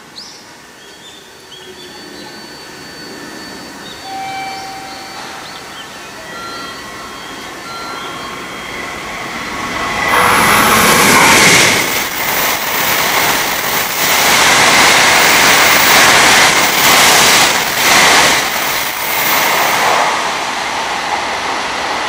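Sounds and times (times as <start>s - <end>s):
train rolling rumble: 0.0s - 22.0s
thin high tones: 1.8s - 19.8s.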